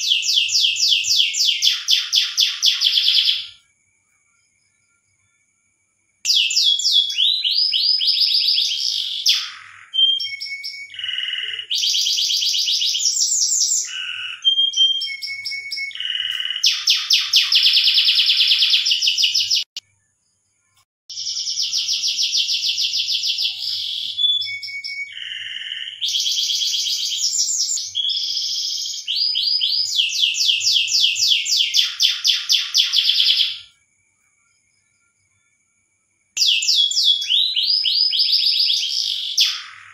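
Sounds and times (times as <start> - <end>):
canary singing trills: 0.0 - 3.6, 6.2 - 19.8, 20.7 - 33.8, 36.4 - 39.9.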